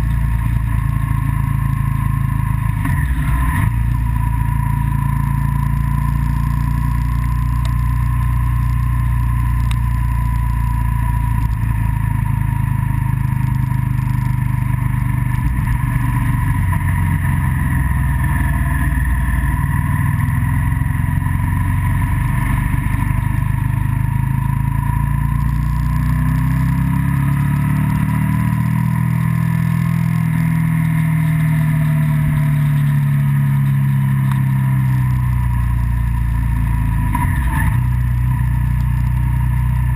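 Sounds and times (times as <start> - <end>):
road and wind noise: 0.0 - 39.9
steady whine: 0.0 - 39.9
vehicle engine running: 0.0 - 39.9.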